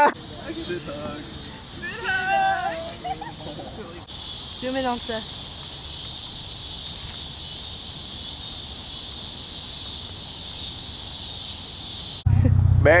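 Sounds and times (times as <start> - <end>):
insects chirring: 0.0 - 12.3.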